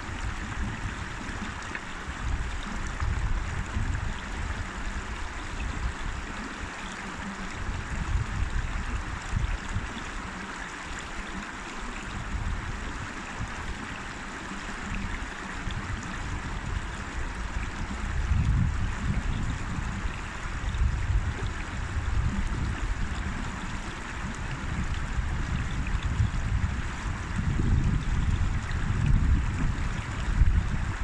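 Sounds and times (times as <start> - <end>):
river water rushing: 0.0 - 27.8.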